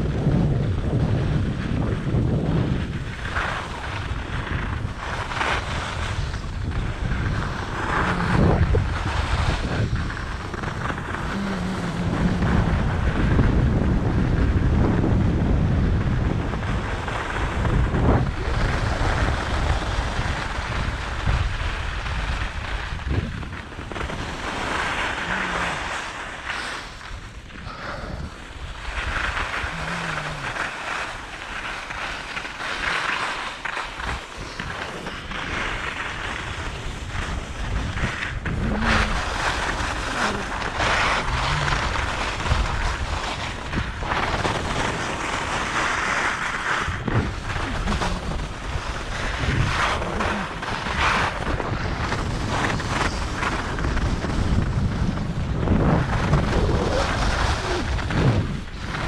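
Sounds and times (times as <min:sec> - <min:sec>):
skis scraping over snow: 0:00.0 - 0:59.0
wind rumbling on microphone: 0:00.0 - 0:59.0.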